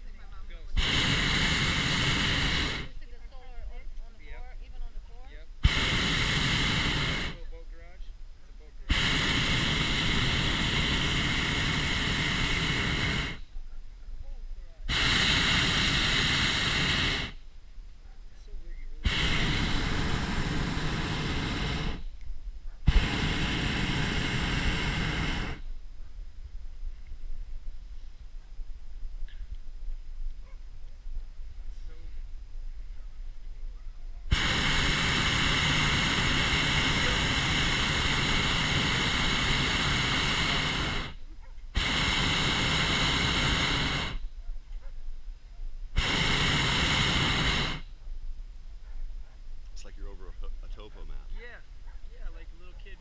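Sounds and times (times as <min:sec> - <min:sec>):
propane burner blasts: 0:00.0 - 0:13.7, 0:14.8 - 0:17.6, 0:18.4 - 0:28.1, 0:31.2 - 0:44.4, 0:45.8 - 0:48.4, 0:49.6 - 0:53.0.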